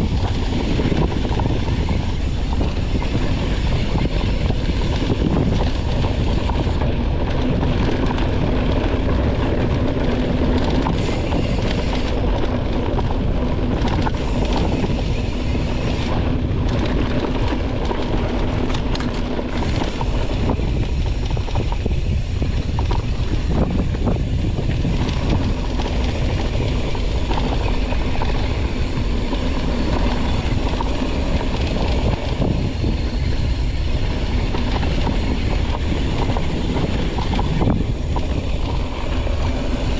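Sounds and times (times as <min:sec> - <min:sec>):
bike rattling over rough ground: 0:00.0 - 0:39.9
wind noise on microphone: 0:00.0 - 0:39.9.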